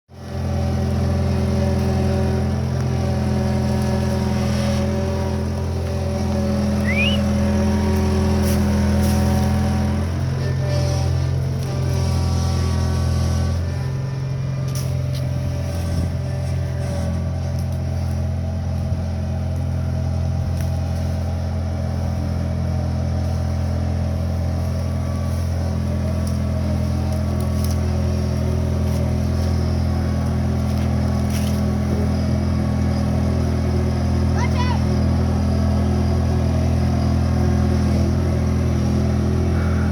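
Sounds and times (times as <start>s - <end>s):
skid steer engine running: 0.1s - 39.9s.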